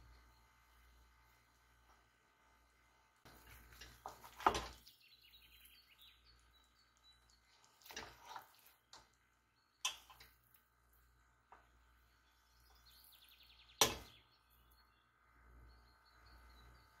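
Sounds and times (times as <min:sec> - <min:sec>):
faint high chirping tones: 0:00.0 - 0:01.7, 0:04.8 - 0:17.0.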